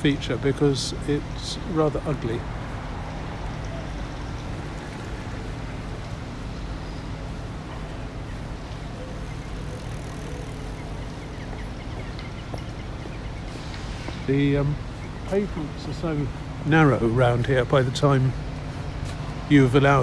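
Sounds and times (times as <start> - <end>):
road noise of engines: 0.0 - 20.0.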